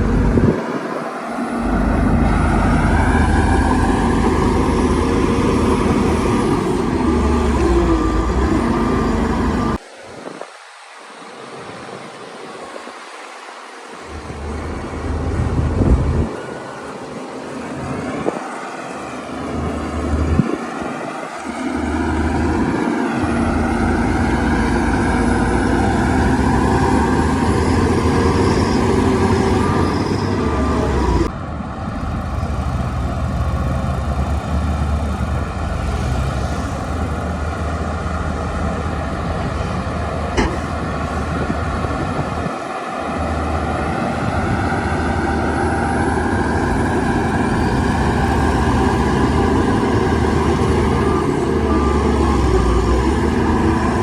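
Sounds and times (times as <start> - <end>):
bulldozer diesel engine under load: 0.0 - 9.8, 14.0 - 54.0.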